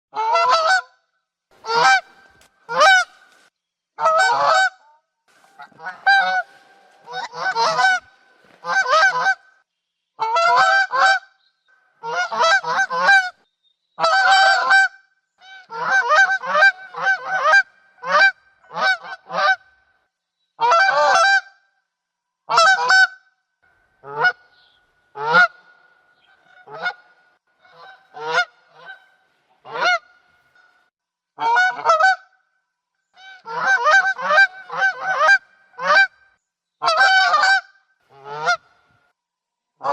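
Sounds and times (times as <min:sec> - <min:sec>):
geese honking: 0:00.1 - 0:00.8, 0:01.6 - 0:09.6, 0:10.2 - 0:13.4, 0:14.0 - 0:19.8, 0:20.6 - 0:21.5, 0:22.5 - 0:23.1, 0:24.0 - 0:32.3, 0:33.2 - 0:36.2, 0:36.8 - 0:38.9.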